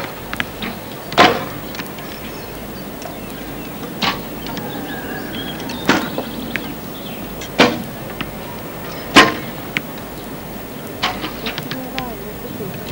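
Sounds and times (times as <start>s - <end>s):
faint clicks: 0.0s - 12.9s.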